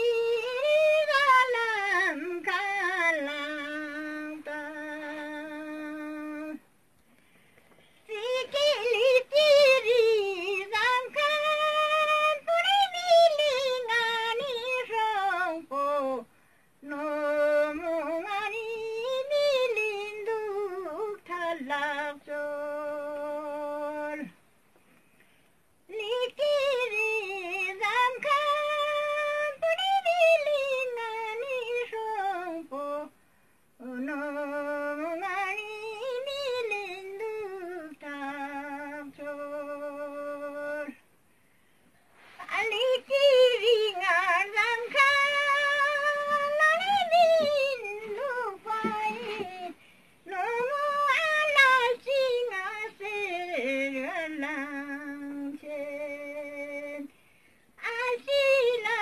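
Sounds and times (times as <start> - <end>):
elderly woman singing: 0.0 - 6.6, 8.0 - 24.4, 25.9 - 33.2, 33.8 - 41.0, 42.2 - 57.1, 57.8 - 59.0.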